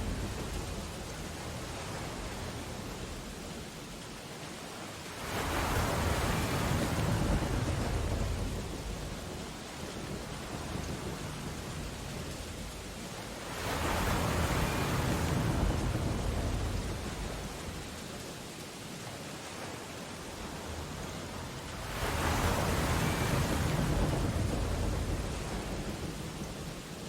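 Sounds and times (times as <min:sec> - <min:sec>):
ocean surf crashing: 0:00.0 - 0:27.0.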